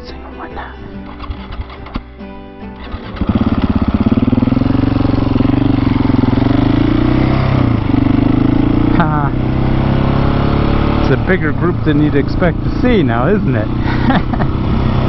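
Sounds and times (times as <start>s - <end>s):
motorcycle engine revving: 1.0s - 2.1s, 2.8s - 15.0s.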